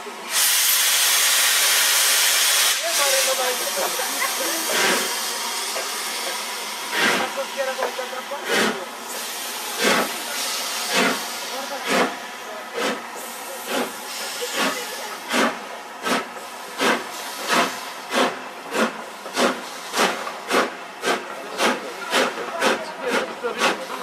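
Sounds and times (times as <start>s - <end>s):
steady hiss of steam: 0.1s - 24.0s
steam locomotive exhaust beats: 0.3s - 24.0s.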